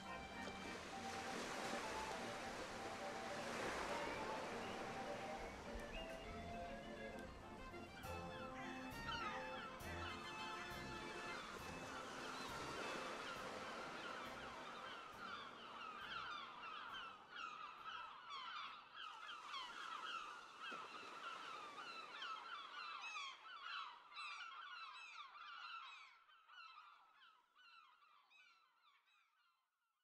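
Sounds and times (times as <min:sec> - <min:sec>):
seagulls calling: 0:00.0 - 0:28.6.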